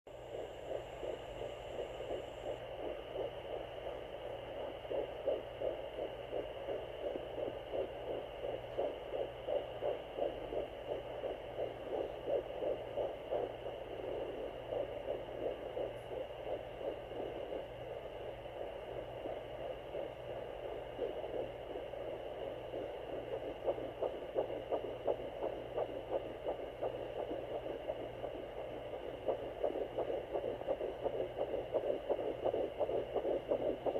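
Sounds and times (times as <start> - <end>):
fetal heartbeat whooshing pulses: 0.1 - 33.9
static hum from speaker: 0.1 - 33.9.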